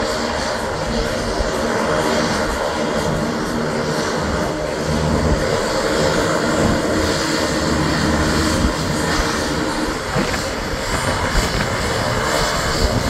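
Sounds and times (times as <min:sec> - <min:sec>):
turboprop plane taxiing: 0:00.0 - 0:13.0.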